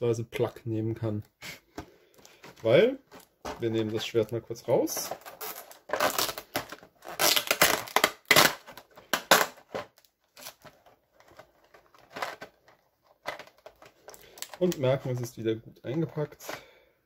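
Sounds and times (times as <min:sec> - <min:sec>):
plastic packaging crackling: 0:02.1 - 0:16.6.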